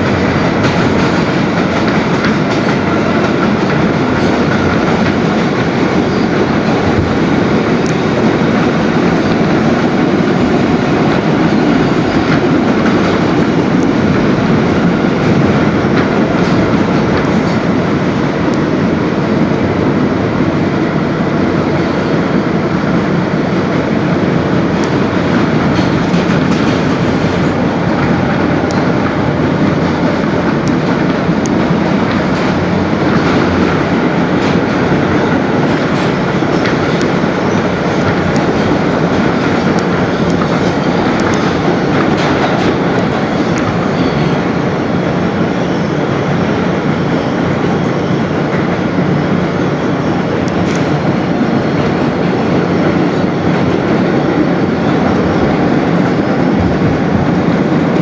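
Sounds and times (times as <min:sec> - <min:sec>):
subway car wheels rumbling: 0:00.0 - 0:58.0.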